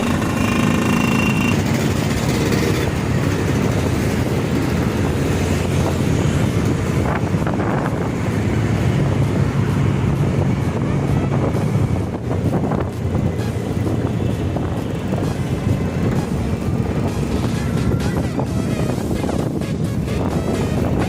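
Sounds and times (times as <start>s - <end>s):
motorcycle engines running: 0.0s - 21.0s
wind on microphone: 0.0s - 21.0s.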